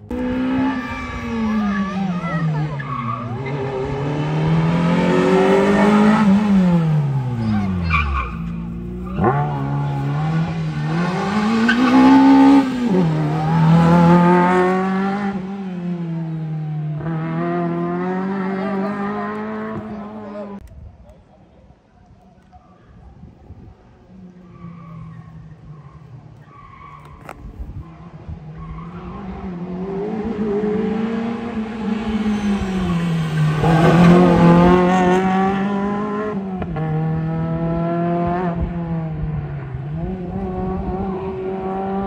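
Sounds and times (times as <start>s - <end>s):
race car engine revving: 0.0s - 20.6s, 28.0s - 42.0s.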